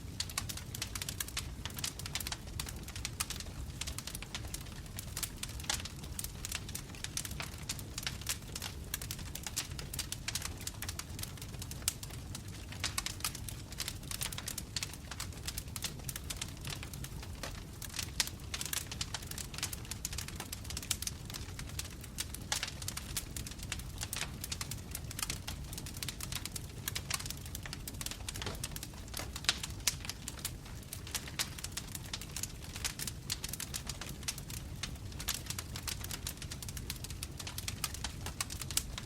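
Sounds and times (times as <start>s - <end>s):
wood logs crackling in fireplace: 0.0s - 39.0s.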